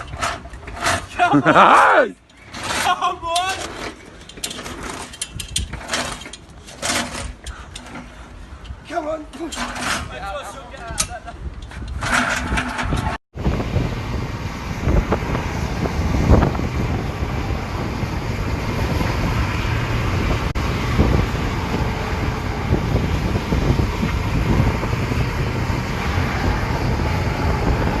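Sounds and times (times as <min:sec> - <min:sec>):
vehicle rumble and wind noise: 0:00.0 - 0:28.0.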